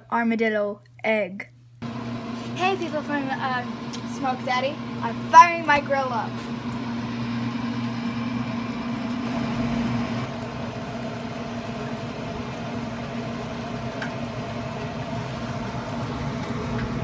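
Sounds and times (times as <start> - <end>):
grill fan motor hum: 1.8 - 17.0.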